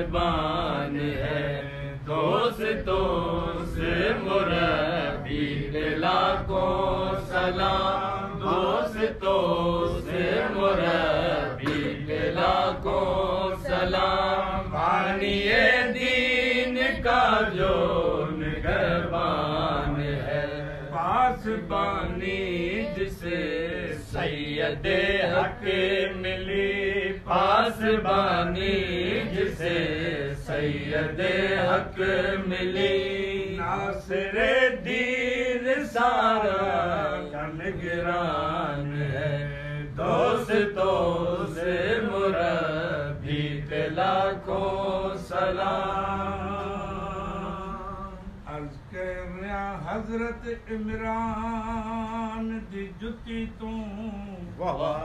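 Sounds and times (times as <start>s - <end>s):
man chanting: 0.0s - 55.0s.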